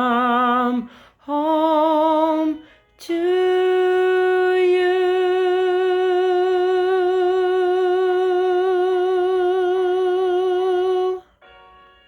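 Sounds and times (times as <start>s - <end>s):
woman singing long note: 0.0s - 11.3s.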